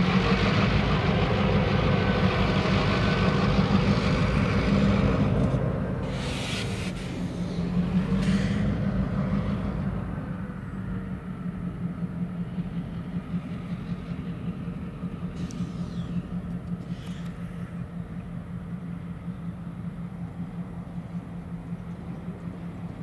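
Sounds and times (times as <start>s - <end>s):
diesel locomotive engines rumbling: 0.0s - 23.0s.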